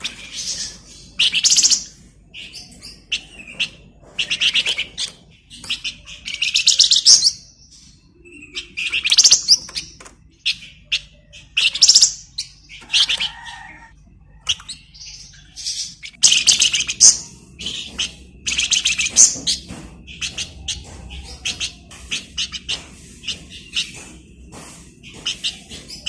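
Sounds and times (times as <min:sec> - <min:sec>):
songbird chirping and trilling: 0:00.0 - 0:26.0.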